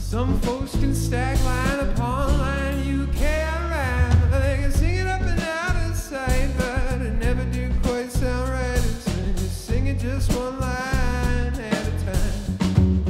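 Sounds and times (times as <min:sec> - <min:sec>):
man singing: 0:00.0 - 0:12.6
drums: 0:00.0 - 0:13.0.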